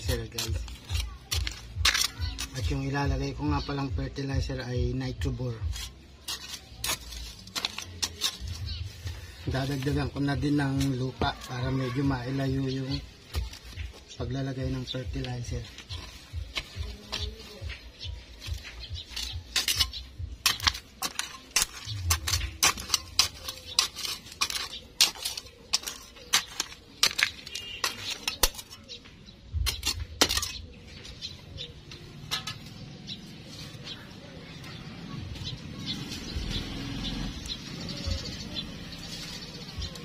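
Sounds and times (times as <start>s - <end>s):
hand tool scraping gravelly soil: 0.0s - 2.9s, 5.5s - 29.0s, 32.2s - 40.0s.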